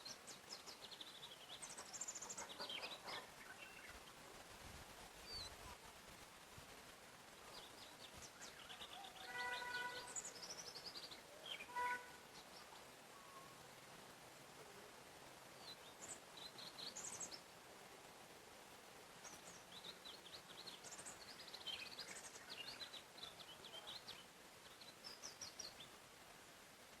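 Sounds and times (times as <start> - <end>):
songbirds chirping and trilling: 0.0 - 5.9, 6.9 - 27.0
steady soft hiss: 0.0 - 27.0.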